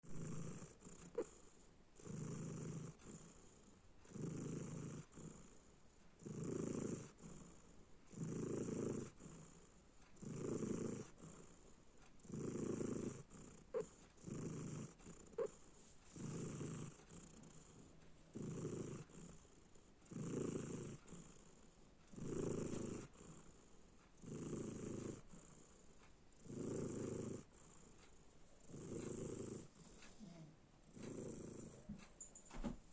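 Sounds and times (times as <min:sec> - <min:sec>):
cat snoring: 0:00.0 - 0:32.2.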